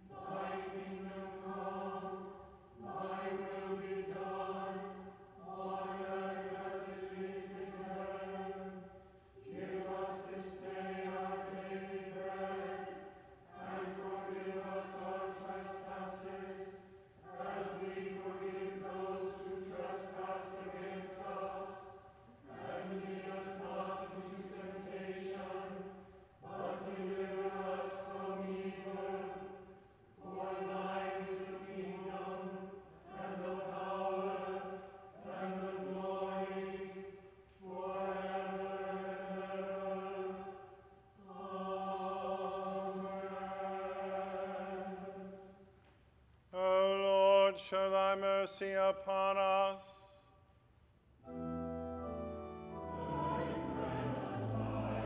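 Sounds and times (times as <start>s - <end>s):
choir chanting: 0.0s - 45.7s, 46.6s - 50.3s, 51.3s - 55.0s.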